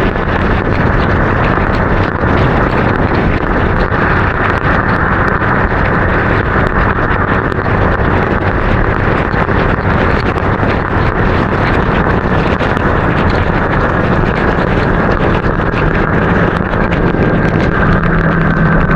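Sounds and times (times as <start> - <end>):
motorbike engine and road noise: 0.0 - 18.9
wind rushing over microphone: 0.0 - 18.9.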